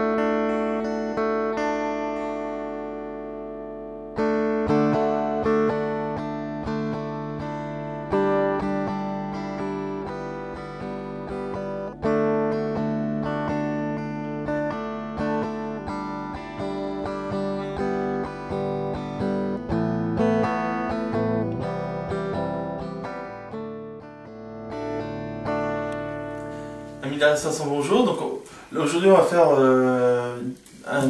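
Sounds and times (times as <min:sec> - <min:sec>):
strummed acoustic guitar: 0:00.0 - 0:29.4.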